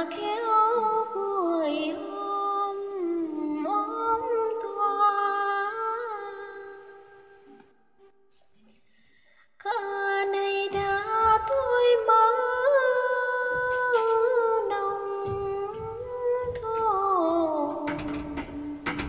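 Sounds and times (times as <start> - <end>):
woman singing unaccompanied: 0.0 - 7.2, 9.6 - 19.0.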